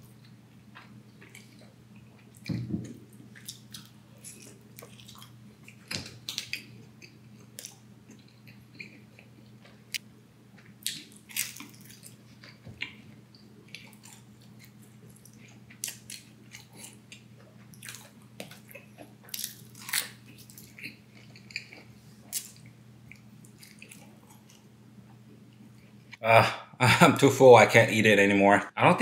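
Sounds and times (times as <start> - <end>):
person chewing pizza: 0.0 - 26.2
faint low hum: 0.0 - 29.0.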